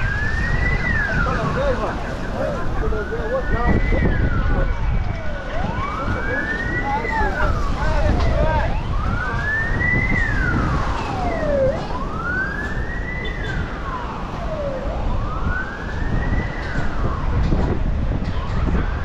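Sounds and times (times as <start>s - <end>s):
emergency vehicle siren wailing: 0.0s - 19.0s
wind on microphone: 0.0s - 19.0s.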